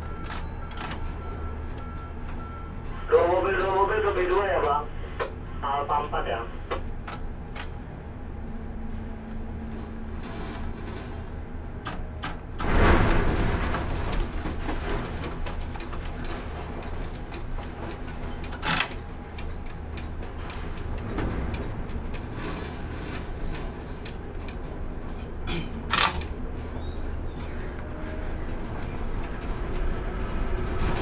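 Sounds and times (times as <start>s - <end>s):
crane machinery hum: 0.0s - 31.0s.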